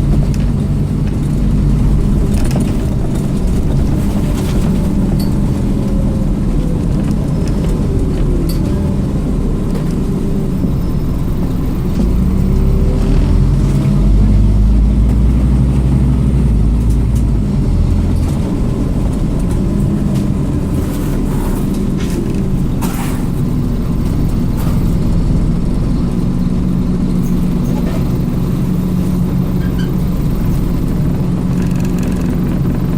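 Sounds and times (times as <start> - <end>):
bus diesel engine running: 0.0 - 32.9.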